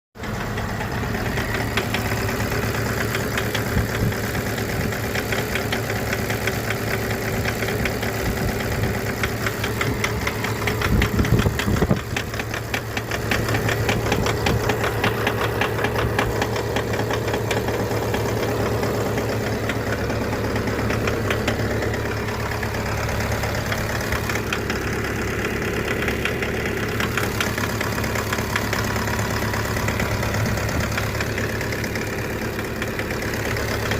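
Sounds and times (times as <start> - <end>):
engine running with ticking knock: 0.2 - 33.9.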